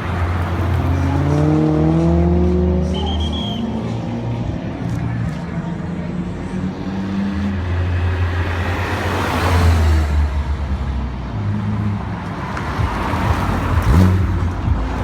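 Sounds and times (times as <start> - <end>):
cars passing at speed: 0.0 - 15.0.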